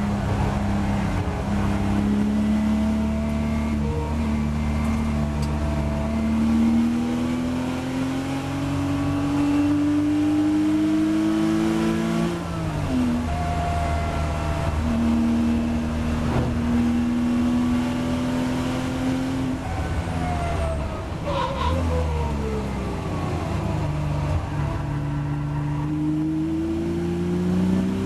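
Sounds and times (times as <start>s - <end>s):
race car engine accelerating: 0.0s - 20.8s, 21.5s - 28.0s.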